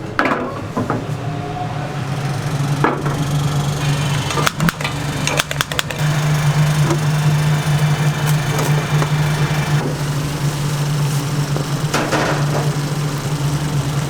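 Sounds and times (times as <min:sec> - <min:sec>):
steady motor hum: 0:00.0 - 0:14.0.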